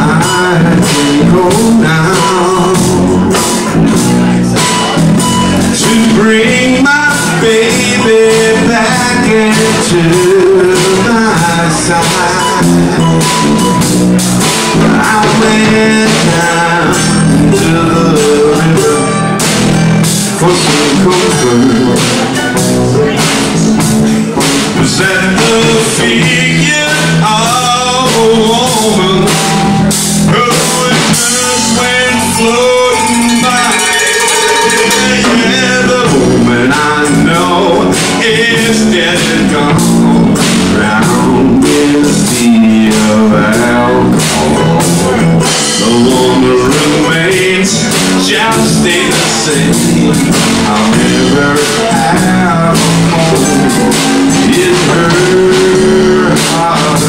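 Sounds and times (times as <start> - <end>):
drum kit with timbales: 0.0 - 57.0
electric bass: 0.0 - 57.0
slow blues band playing: 0.0 - 57.0.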